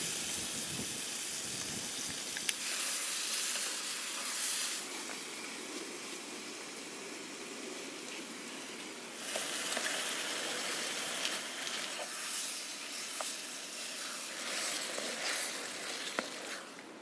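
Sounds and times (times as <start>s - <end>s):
food sizzling with pops: 0.0s - 17.0s.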